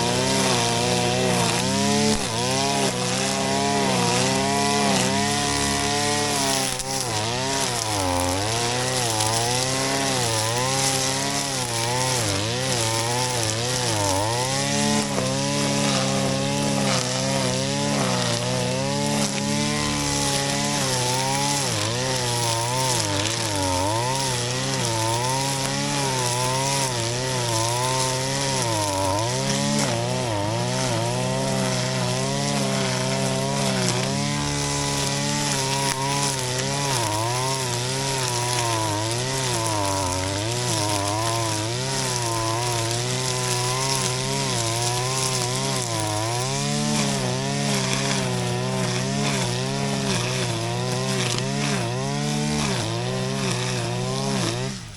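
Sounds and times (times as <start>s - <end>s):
brush cutter cutting grass: 0.0s - 54.9s.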